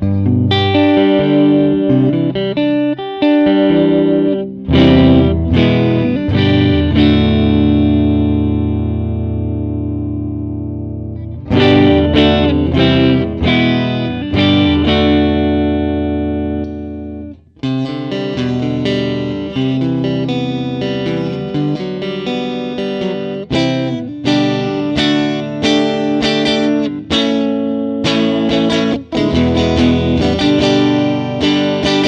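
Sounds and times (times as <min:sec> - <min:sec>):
clean electric guitar: 0:00.0 - 0:32.0.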